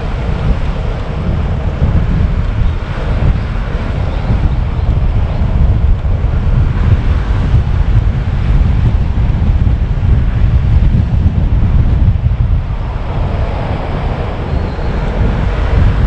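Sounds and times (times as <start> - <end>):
car driving: 0.0 - 16.0
wind buffeting microphone: 0.0 - 16.0.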